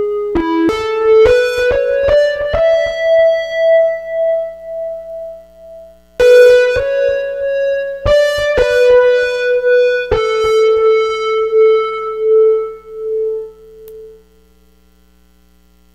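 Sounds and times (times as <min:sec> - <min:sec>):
piano-like keyboard chords: 0:00.0 - 0:14.3
faint electrical hum: 0:00.0 - 0:15.9.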